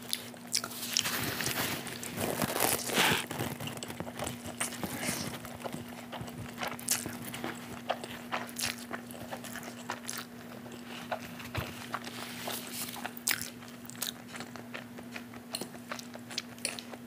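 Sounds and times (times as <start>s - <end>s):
steady low hum: 0.0s - 17.0s
wet chewing and slurping: 0.0s - 17.0s.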